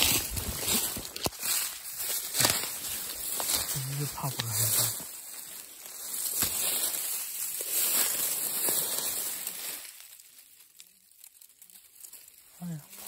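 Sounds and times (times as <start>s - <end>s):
dry leaves rustling and crackling: 0.0s - 13.0s
twigs snapping: 0.0s - 13.0s.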